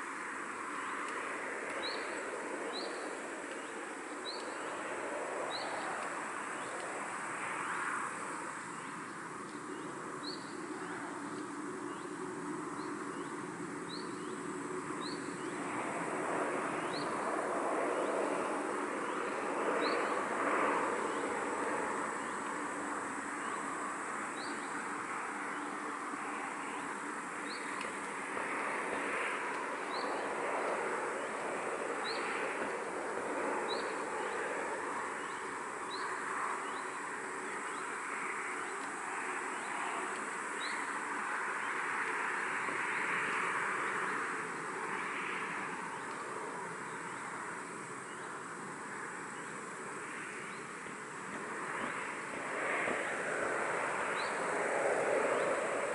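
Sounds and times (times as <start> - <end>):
breeze rustling foliage: 0.0 - 55.9.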